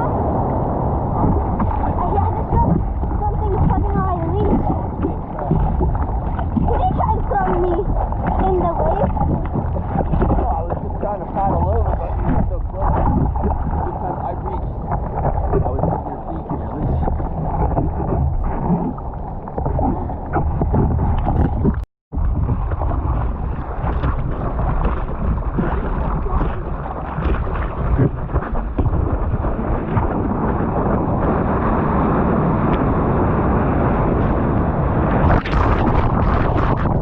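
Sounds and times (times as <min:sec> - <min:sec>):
churning surf water: 0:00.0 - 0:37.0
wind on microphone: 0:00.0 - 0:37.0.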